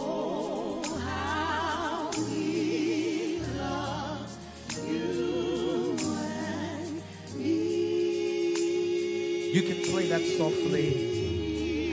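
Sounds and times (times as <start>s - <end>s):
gospel choir singing: 0.0s - 11.9s.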